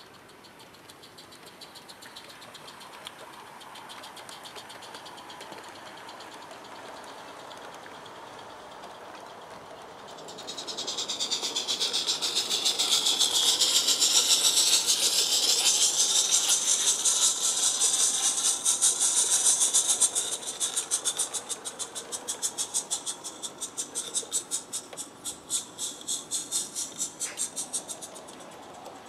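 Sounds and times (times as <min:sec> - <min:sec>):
steam locomotive chuffing: 0:01.6 - 0:29.0.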